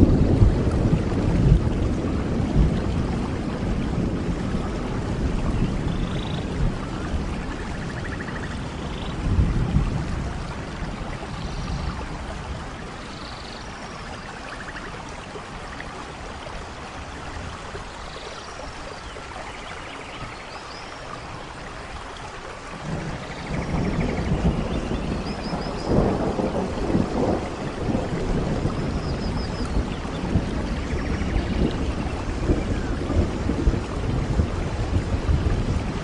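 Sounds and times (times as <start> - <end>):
low rumble of thunder: 0.0 - 18.2, 22.7 - 36.0
steady rain: 0.0 - 36.0.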